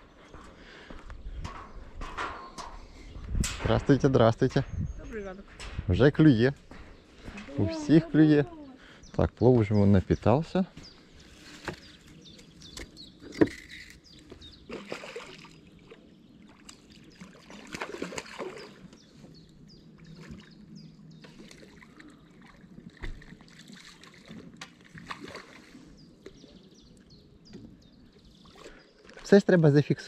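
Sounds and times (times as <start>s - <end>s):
water splashing and sloshing: 0.1s - 9.0s, 11.0s - 29.4s.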